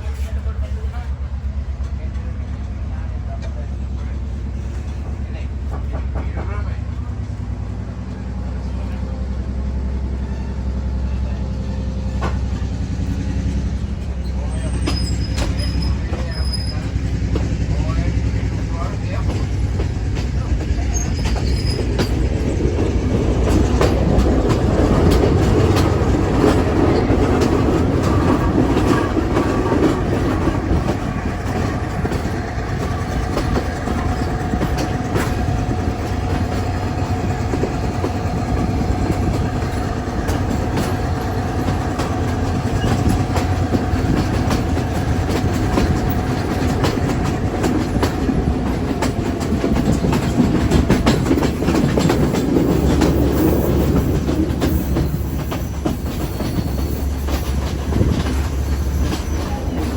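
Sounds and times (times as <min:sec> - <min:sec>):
train rumble: 0:00.0 - 0:59.9
wheels clicking over rail joints: 0:11.6 - 0:59.9.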